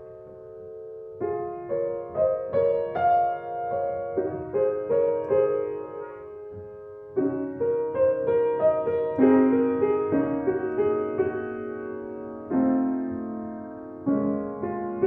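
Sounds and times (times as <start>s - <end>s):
piano tune: 0.0s - 15.0s.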